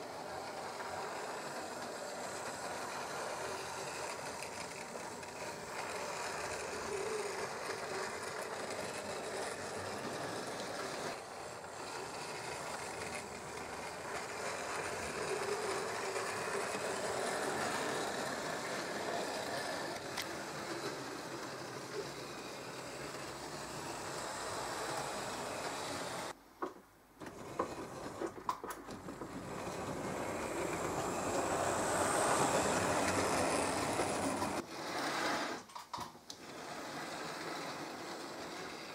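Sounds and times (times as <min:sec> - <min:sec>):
model train motor whirring: 0:00.0 - 0:26.4, 0:27.2 - 0:38.9
wheels running over track: 0:00.0 - 0:38.9.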